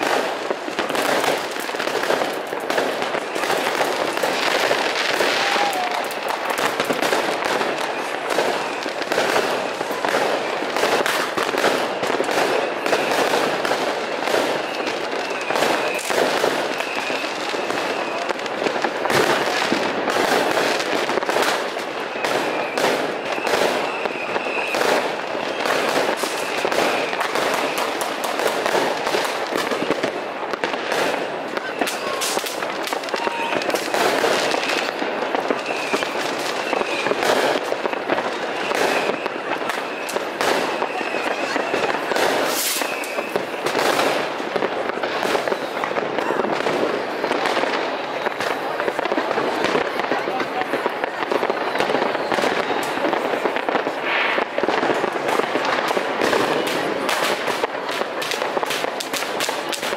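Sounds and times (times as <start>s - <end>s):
fireworks cracking and banging: 0.0s - 59.9s.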